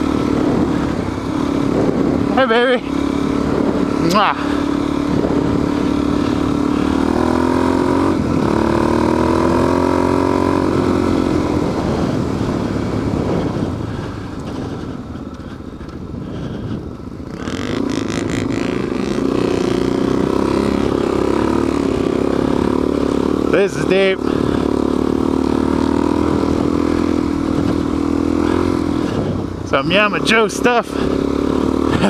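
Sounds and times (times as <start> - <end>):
dirt bike engine revving: 0.0 - 14.8, 16.3 - 32.0.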